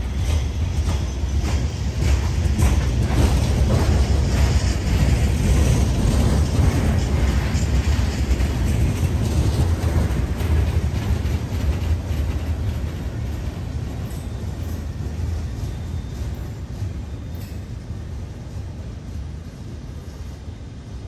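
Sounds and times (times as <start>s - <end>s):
freight train wheels rumbling on rail: 0.0s - 21.0s.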